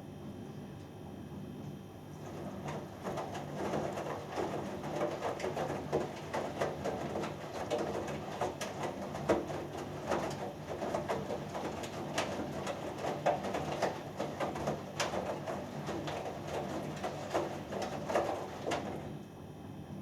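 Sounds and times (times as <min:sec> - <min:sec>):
washing machine motor hum: 0:00.2 - 0:20.0
laundry sloshing in washing machine drum: 0:02.0 - 0:19.3.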